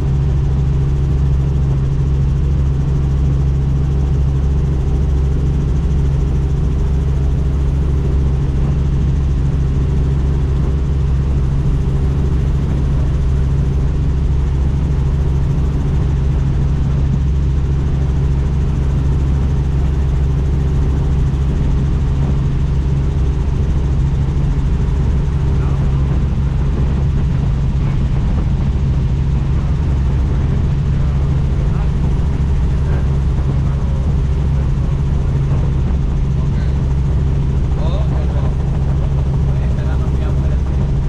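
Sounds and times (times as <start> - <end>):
helicopter rotor drone: 0.0 - 41.0.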